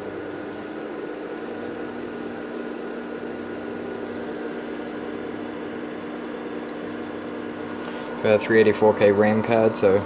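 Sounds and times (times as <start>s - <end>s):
computer hard drive whirring hum: 0.0s - 10.0s.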